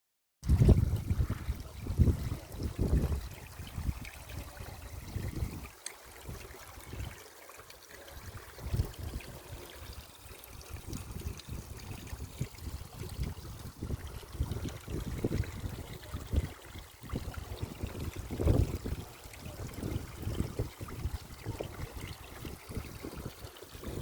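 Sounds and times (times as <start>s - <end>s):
wind buffeting microphone: 0.4s - 7.2s, 8.2s - 24.0s
stream water flowing: 0.4s - 24.0s.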